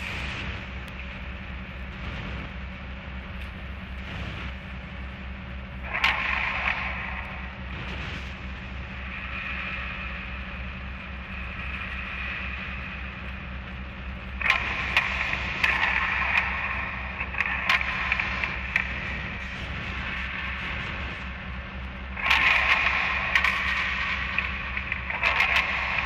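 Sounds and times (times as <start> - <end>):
distorted crackling high noise: 0.0 - 26.0
pulsing low drone: 0.0 - 26.0.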